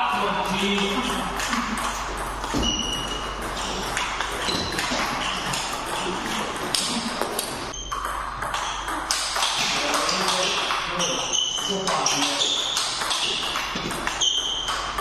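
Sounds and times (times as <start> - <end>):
ping pong ball clicking off bats: 0.5 - 15.0
ping pong ball bouncing on table: 0.8 - 15.0.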